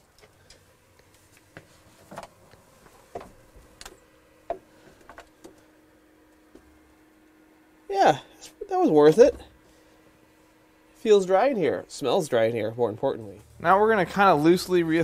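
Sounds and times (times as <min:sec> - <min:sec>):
dehumidifier fan humming: 0:00.0 - 0:15.0.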